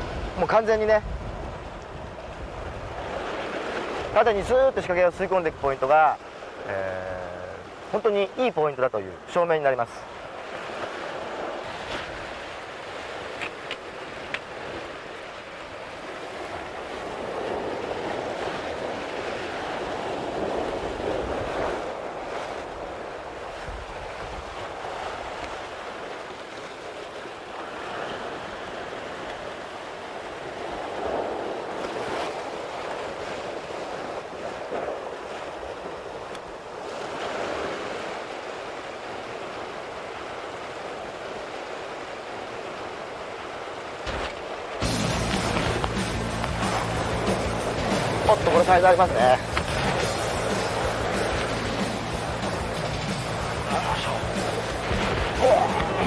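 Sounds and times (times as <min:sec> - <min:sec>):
sea waves washing against rocks: 0:00.0 - 0:56.0.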